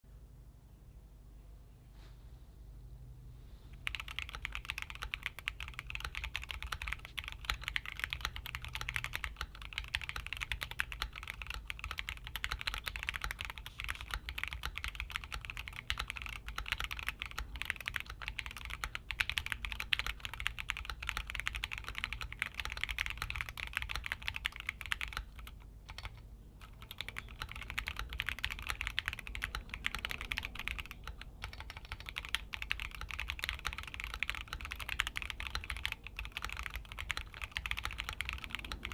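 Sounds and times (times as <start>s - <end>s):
mechanical keyboard typing: 3.8s - 38.9s.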